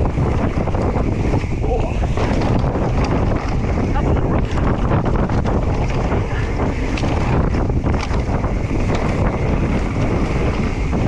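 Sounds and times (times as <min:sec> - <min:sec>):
bike clicks and rattles: 0:00.0 - 0:11.0
bike tyres rumbling on dirt: 0:00.0 - 0:11.0
wind on microphone: 0:00.0 - 0:11.0.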